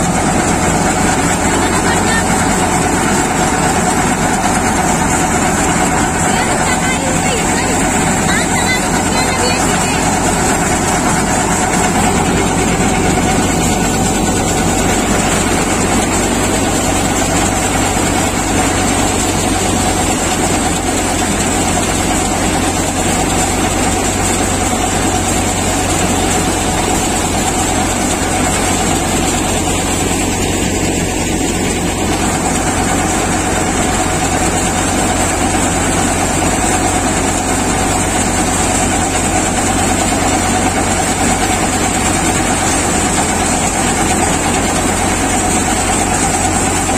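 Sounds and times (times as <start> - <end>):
threshing machine running: 0.0 - 46.9
tractor engine running: 0.0 - 46.9.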